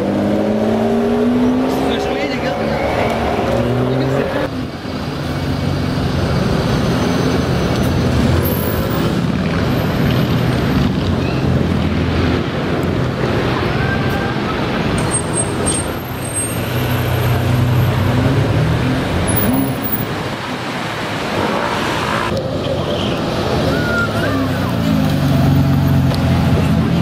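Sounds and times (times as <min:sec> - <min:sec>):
surrounding traffic: 0:00.0 - 0:27.0.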